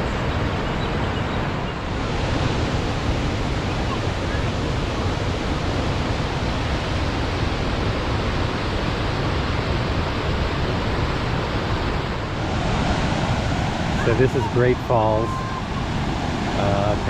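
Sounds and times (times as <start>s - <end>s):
whitewater rushing over rocks: 1.4s - 17.0s.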